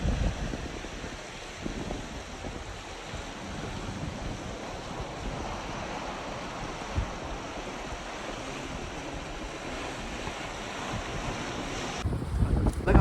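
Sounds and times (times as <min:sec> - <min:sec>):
sea surf rushing onto beach: 0:00.0 - 0:13.0
wind blowing: 0:00.0 - 0:13.0.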